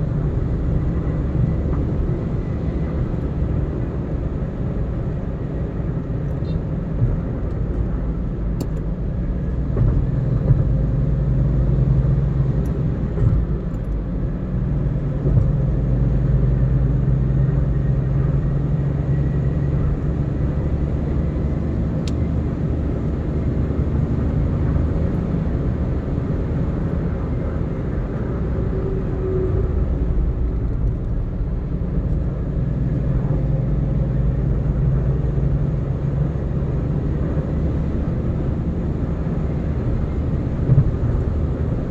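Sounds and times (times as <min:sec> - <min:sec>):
car road and engine drone: 0:00.0 - 0:41.9.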